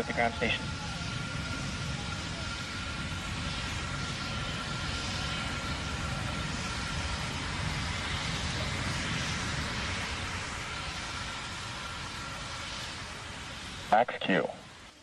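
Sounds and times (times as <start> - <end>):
rocket exhaust rumble and hiss: 0.0 - 15.0.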